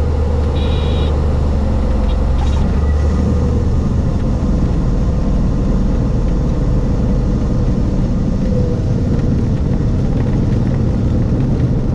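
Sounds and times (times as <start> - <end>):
airplane engine droning: 0.0 - 11.9.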